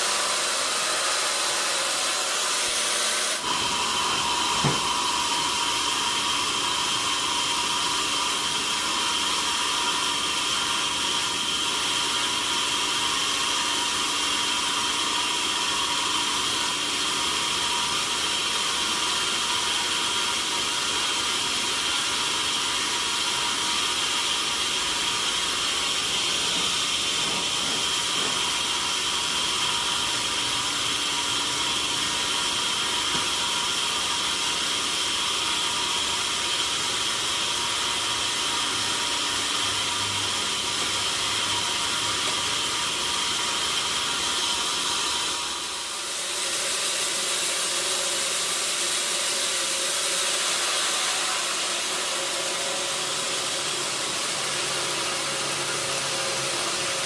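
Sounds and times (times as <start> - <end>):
saw cutting wood: 0.0 - 57.0.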